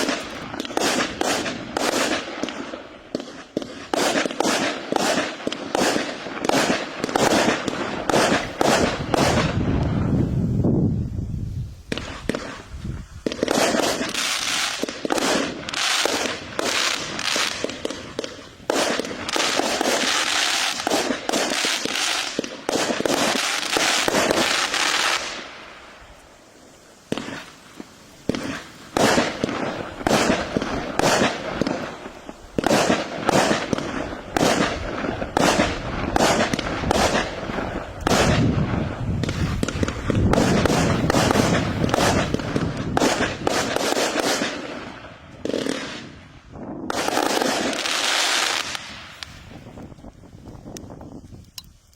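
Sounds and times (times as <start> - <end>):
firework cake shots and bursts: 0.0 - 10.5, 11.8 - 51.9.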